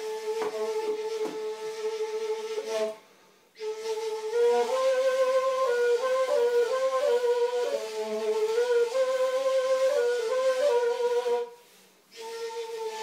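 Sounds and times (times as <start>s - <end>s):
end-blown flute melody: 0.0s - 3.0s, 3.6s - 13.0s.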